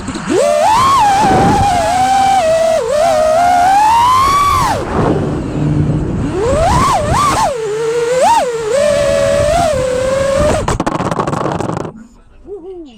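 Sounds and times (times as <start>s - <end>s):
quadcopter motors whining: 0.0s - 12.0s
rough crackling noise: 0.0s - 12.0s.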